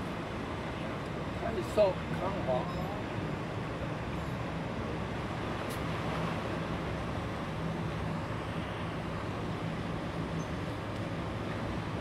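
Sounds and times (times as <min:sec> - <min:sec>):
ship engine rumble: 0:00.0 - 0:12.0.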